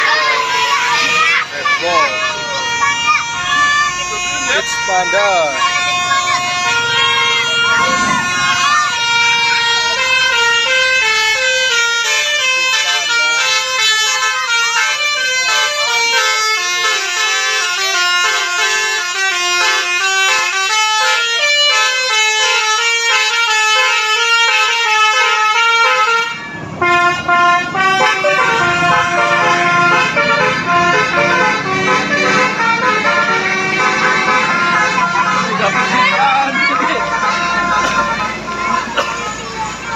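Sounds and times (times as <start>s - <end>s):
musical air horn tune: 1.8s - 39.1s.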